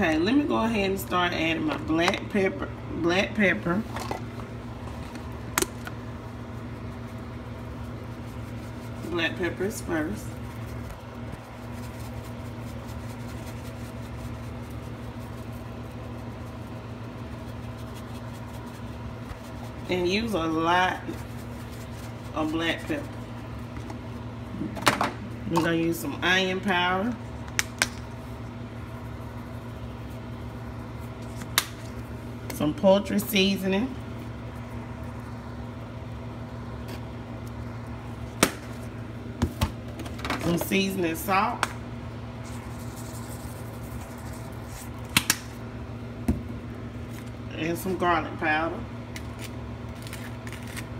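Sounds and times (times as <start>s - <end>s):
appliance humming: 0.0s - 50.9s.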